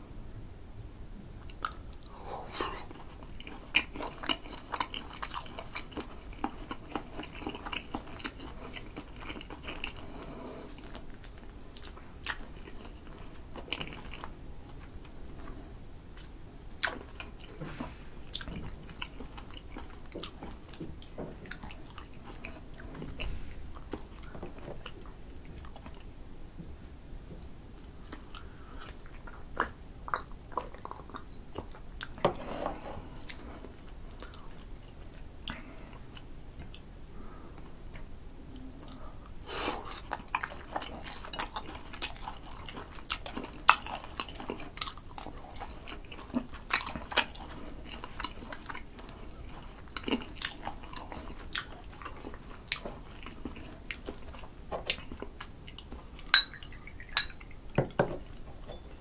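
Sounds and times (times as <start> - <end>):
close chewing and wet mouth sounds: 1.4 - 17.7, 18.3 - 26.1, 27.7 - 32.5, 33.1 - 36.9, 38.5 - 59.0.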